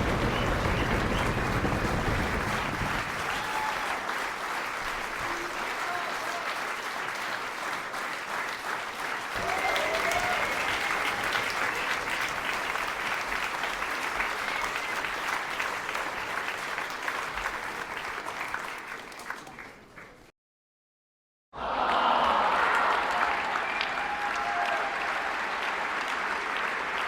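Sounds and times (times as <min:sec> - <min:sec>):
crowd applauding and cheering: 0:00.0 - 0:20.3, 0:21.6 - 0:27.0.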